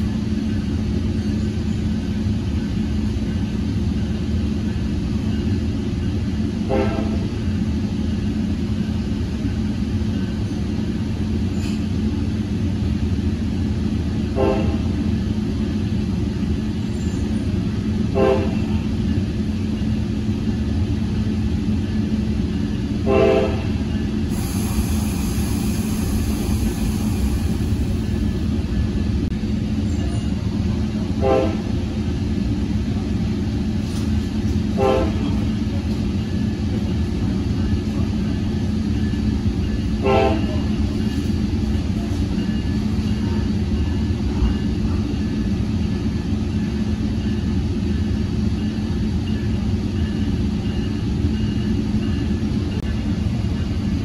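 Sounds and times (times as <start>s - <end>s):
train rumbling in motion: 0.0s - 54.0s.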